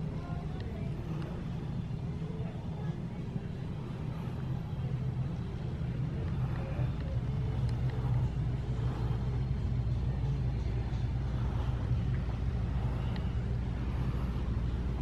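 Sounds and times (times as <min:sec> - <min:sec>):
low room hum and rumble: 0:00.0 - 0:15.0.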